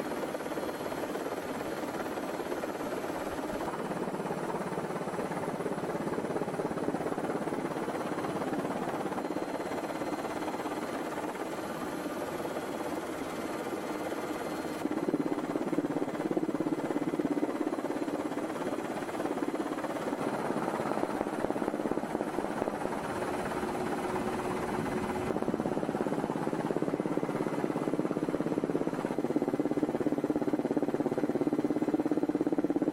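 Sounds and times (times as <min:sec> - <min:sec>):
helicopter engine and rotor drone: 0:00.0 - 0:32.9.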